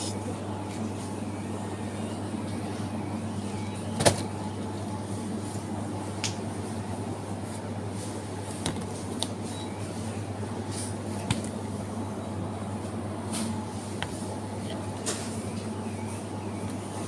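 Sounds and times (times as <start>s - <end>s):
freezers humming: 0.0s - 17.0s.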